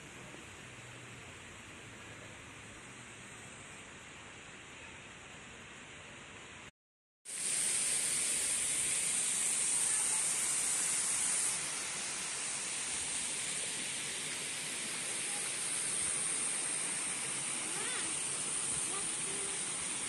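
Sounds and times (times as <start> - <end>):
steady outdoor hiss: 0.0 - 6.7, 7.3 - 20.0.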